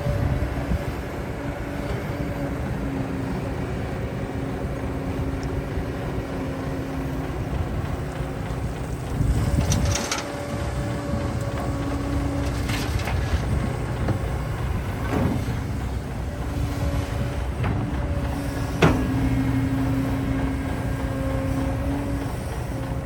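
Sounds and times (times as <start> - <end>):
diesel engine running: 0.0 - 23.0
hydraulic whine: 0.0 - 23.0.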